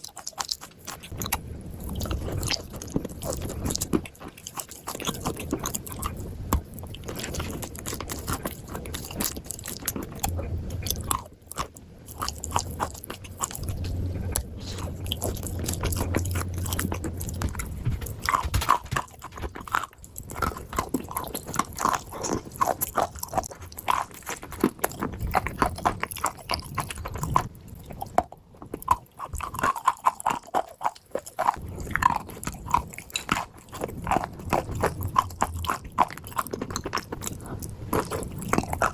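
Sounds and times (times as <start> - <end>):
clay being chewed crunching: 0.0 - 38.9.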